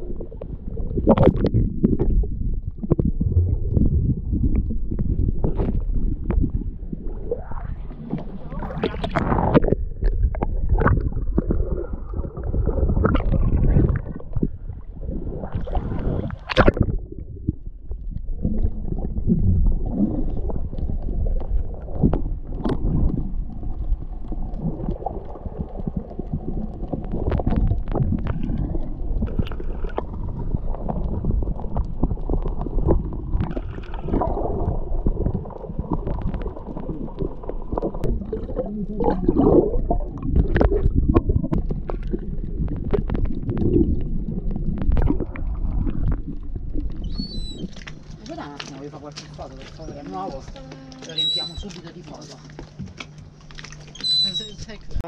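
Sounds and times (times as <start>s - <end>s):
muffled water sloshing and gurgling: 0.0s - 55.0s.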